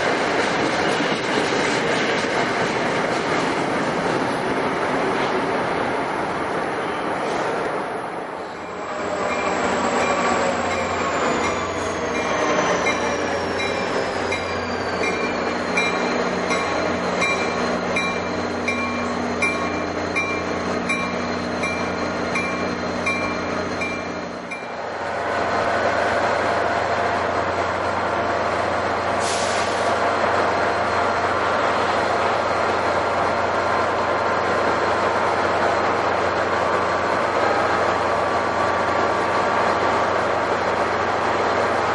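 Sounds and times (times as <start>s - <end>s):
train running past: 0.0s - 41.9s.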